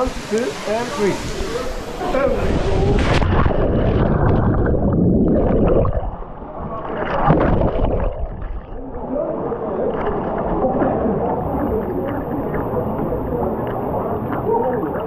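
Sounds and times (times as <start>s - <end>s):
muffled underwater churning: 1.1s - 15.0s.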